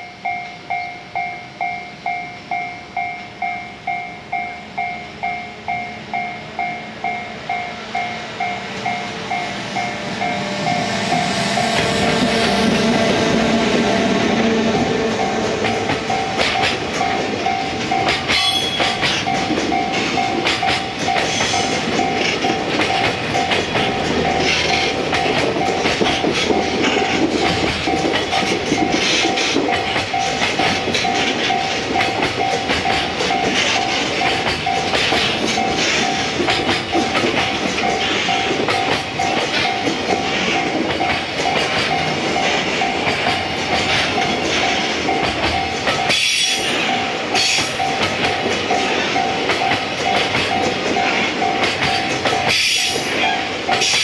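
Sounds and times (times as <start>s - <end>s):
train wheels clattering: 2.1s - 54.0s.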